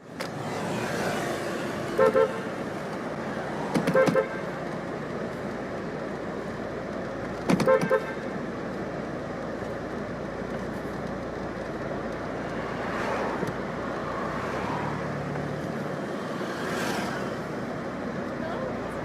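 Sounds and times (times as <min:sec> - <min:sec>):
steady road noise: 0:00.0 - 0:19.0
vehicles passing: 0:00.0 - 0:19.0.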